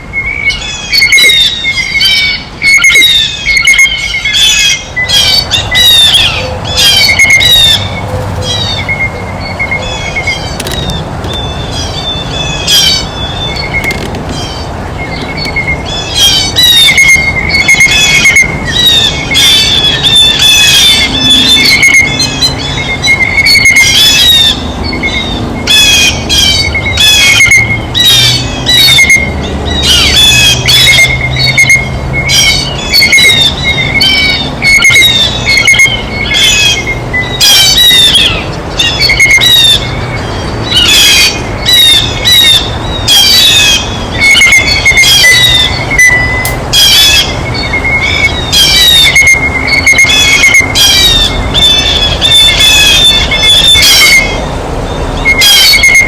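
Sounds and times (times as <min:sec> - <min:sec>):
blue jays squawking: 0:00.0 - 0:56.0.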